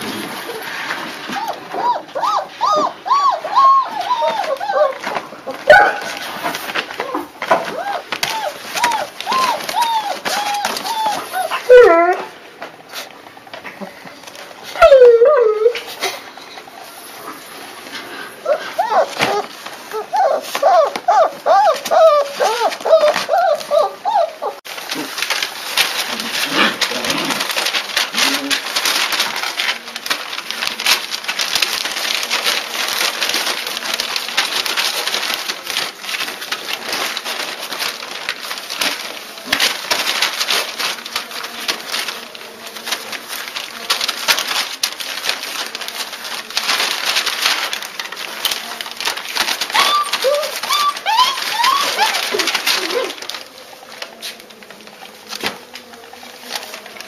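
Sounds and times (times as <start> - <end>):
puppies whining: 0.0 - 12.4, 14.6 - 17.5, 18.2 - 42.2, 42.8 - 55.8
puppies scuffling: 0.0 - 57.0.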